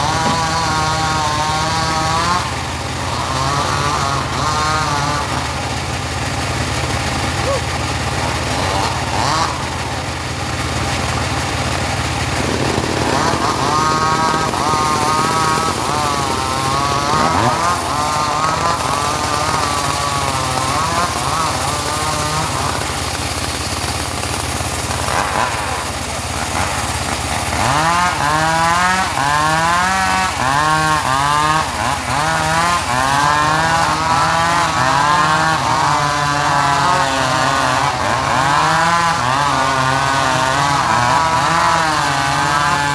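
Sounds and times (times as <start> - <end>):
saw cutting wood wavering pitch: 0.0 - 42.9
sawmill engine humming: 0.0 - 42.9.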